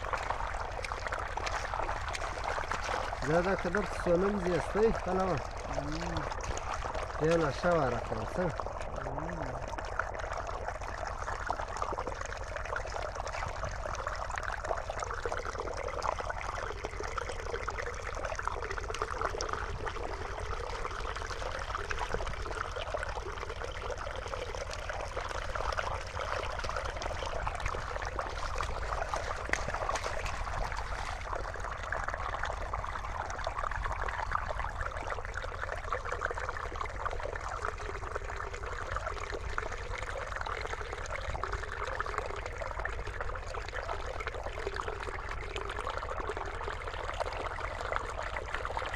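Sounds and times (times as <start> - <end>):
water trickling over gravel: 0.0 - 48.9.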